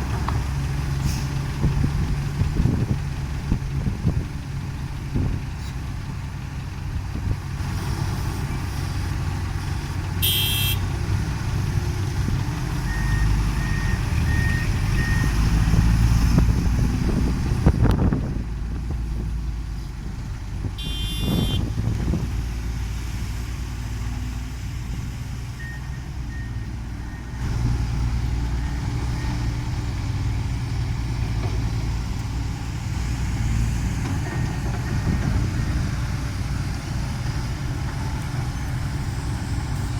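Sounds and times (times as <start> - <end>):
excavator diesel engine rumbling: 0.0 - 39.9.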